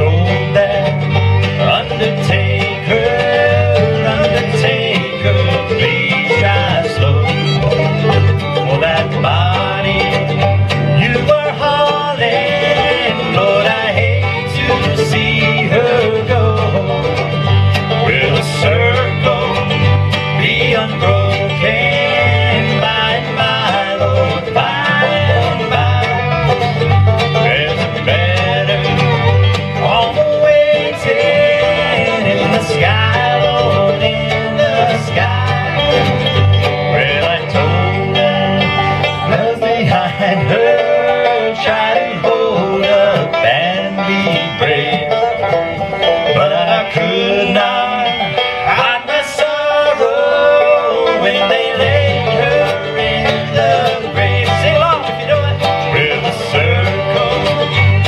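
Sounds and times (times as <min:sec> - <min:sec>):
bluegrass band playing: 0:00.0 - 0:58.0
upright bass plucking: 0:00.0 - 0:58.0.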